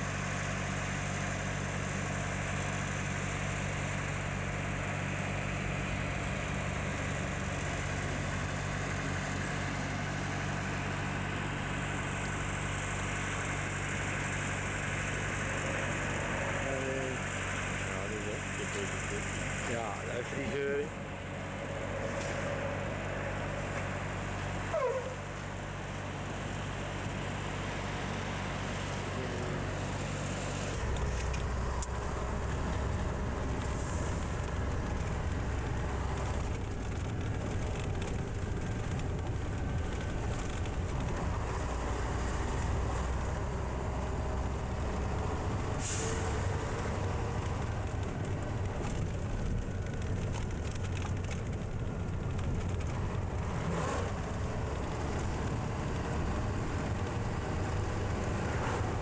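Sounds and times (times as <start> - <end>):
truck diesel engine from cab: 0.0 - 59.0.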